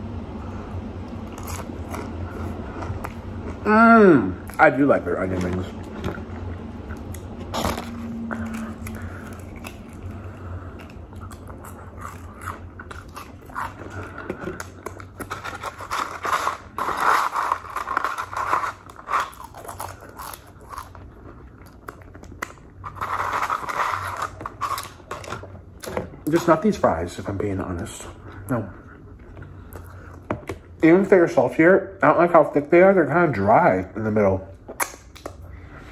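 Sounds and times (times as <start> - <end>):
chewing and crunching food: 1.0 - 3.7, 4.3 - 30.8.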